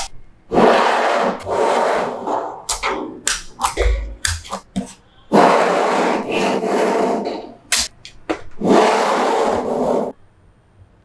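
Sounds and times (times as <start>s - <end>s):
hands rubbing magnetic balls: 0.6s - 10.1s.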